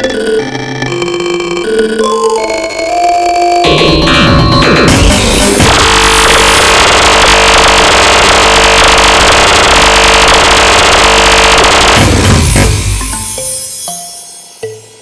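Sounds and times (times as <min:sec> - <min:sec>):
distorted wall of synthesized notes: 0:00.0 - 0:13.4.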